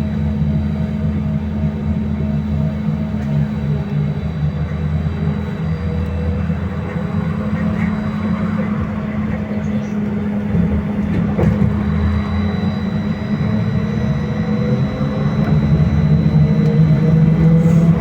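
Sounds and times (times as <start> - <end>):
trolleybus electric drive whining: 0.0 - 18.0.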